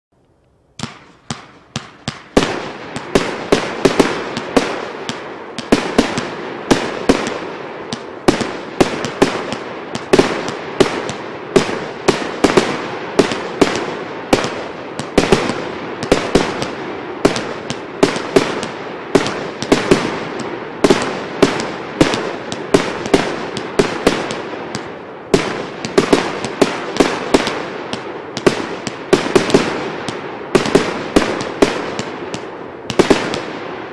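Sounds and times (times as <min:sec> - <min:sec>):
firework battery bangs: 0:00.8 - 0:33.9.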